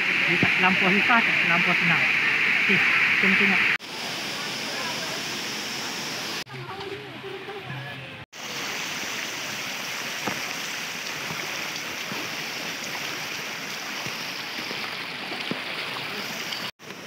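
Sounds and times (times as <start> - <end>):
waterfall rushing: 0.0 - 6.5, 8.4 - 16.7.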